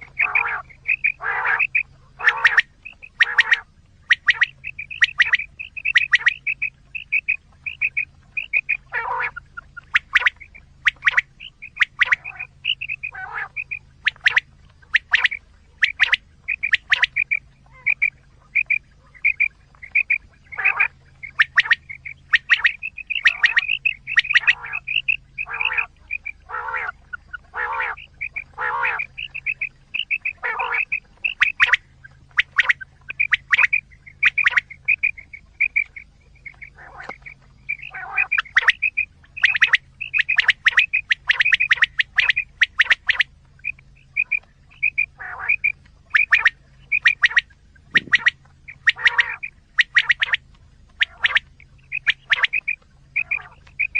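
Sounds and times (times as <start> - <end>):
quail calls: 0.0 - 53.9.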